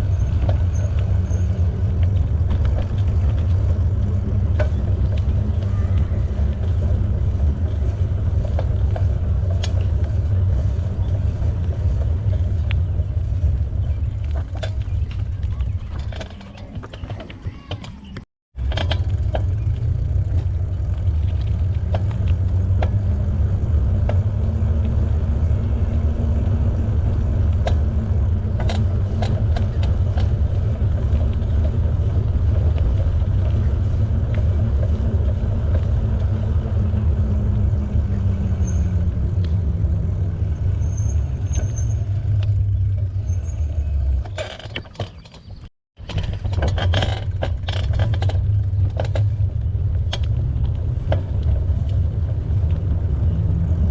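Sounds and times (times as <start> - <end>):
bicycle tyres on pavement: 0.0 - 53.9
wind rumbling on microphone: 0.0 - 53.9.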